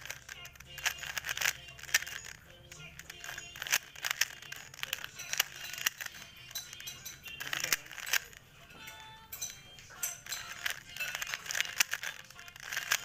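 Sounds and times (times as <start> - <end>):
puzzle cube clicking: 0.0 - 8.4, 10.2 - 13.0.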